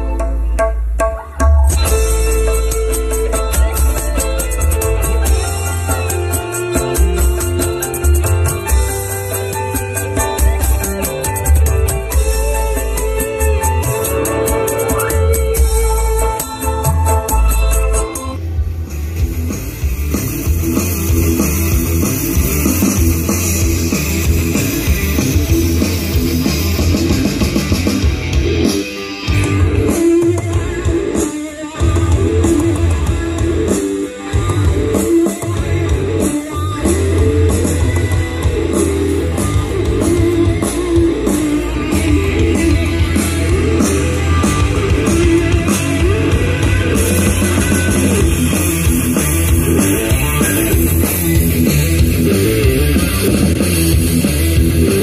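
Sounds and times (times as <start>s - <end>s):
rock music with heavy bass: 0.0s - 55.0s.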